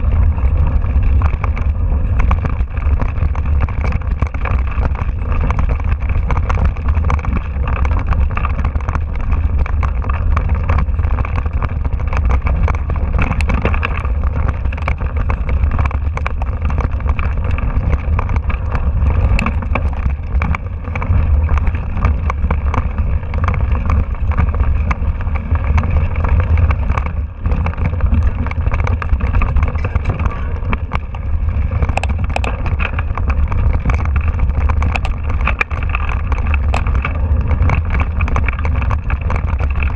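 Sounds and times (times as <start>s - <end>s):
bike rattling over stones: 0.0s - 39.9s
wind and vibration rumble: 0.0s - 39.9s.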